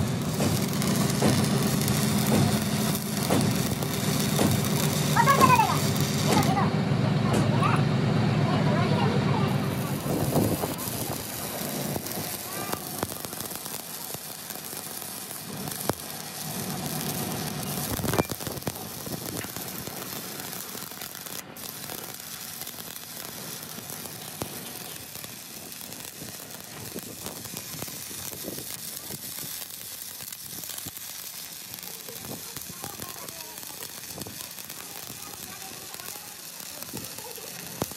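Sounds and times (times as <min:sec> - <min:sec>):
sharp crack: 0:00.0 - 0:06.6, 0:09.7 - 0:37.9
welding arc crackling and sizzling: 0:00.0 - 0:37.9.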